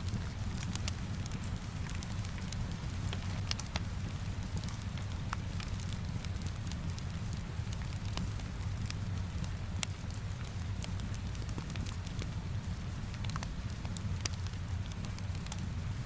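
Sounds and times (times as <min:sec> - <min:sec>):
fire crackles and ticks: 0:00.0 - 0:16.0
soft rain hiss: 0:00.0 - 0:16.0.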